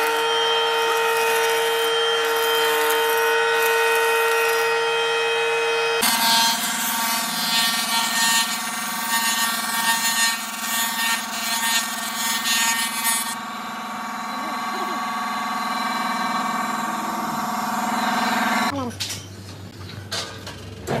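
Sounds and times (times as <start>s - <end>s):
harsh uneven wood cutting noise: 0.0s - 18.7s
spindle moulder motor hum: 0.0s - 18.8s.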